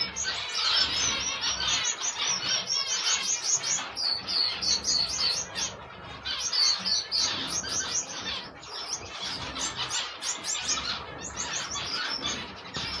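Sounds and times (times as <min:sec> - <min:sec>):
chicks begging with high chirps: 0:00.0 - 0:13.0.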